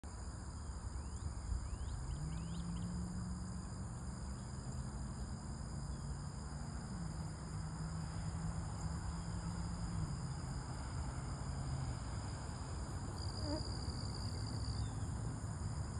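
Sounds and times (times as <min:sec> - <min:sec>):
high-pitched insect chorus: 0:00.1 - 0:15.9.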